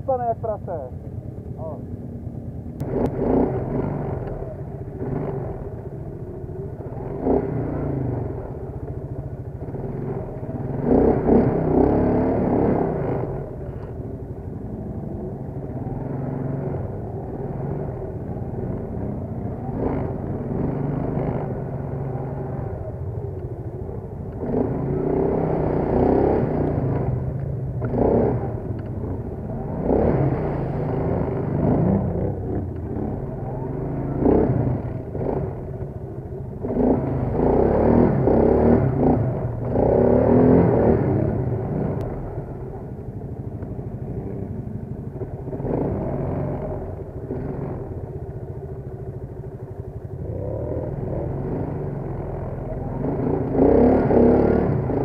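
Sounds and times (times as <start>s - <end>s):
quad bike engine revving: 2.8s - 43.0s, 43.6s - 55.0s.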